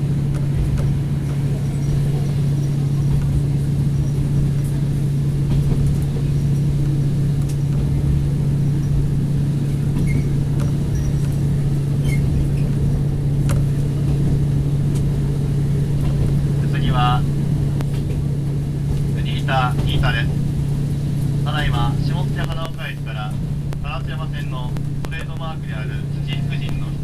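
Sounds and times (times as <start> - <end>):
diesel engine hum: 0.0 - 27.0
wheels rumbling on track: 0.0 - 27.0.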